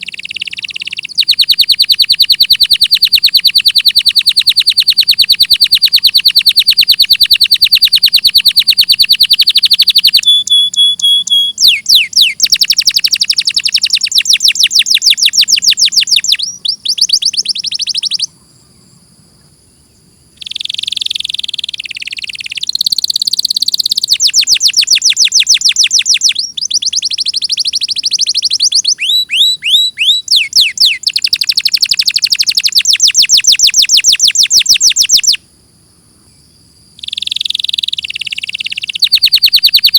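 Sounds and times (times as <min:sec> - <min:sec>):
canary singing rapid trills: 0:00.0 - 0:18.4, 0:20.3 - 0:35.4, 0:37.0 - 0:39.9.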